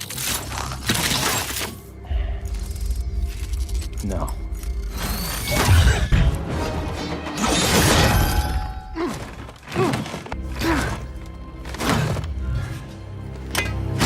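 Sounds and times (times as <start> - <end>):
dramatic film score: 0.0 - 14.0.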